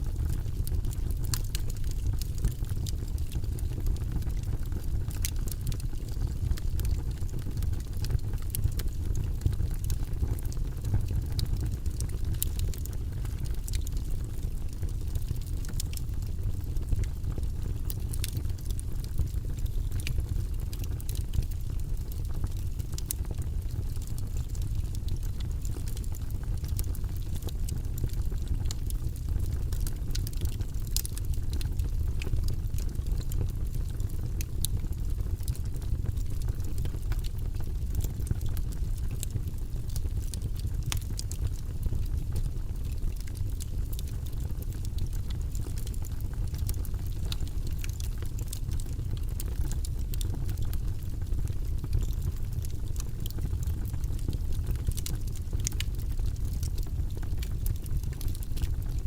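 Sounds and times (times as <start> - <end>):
fire crackles and pops: 0.0 - 59.0
low rumble of flames: 0.0 - 59.0.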